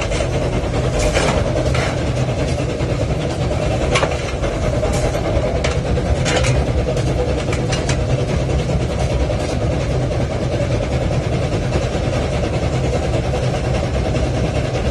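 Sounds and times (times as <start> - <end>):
locomotive rumbling: 0.0 - 14.9.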